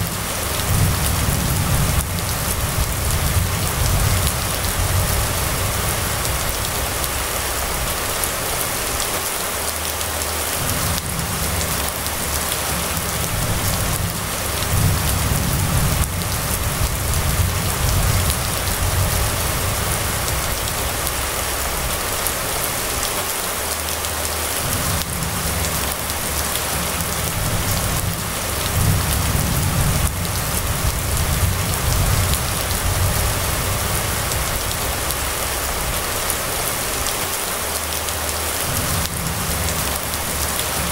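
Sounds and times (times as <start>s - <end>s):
low rumbles: 0.0s - 9.1s, 10.4s - 23.1s, 24.4s - 37.2s
rain on wet pavement: 0.0s - 40.9s.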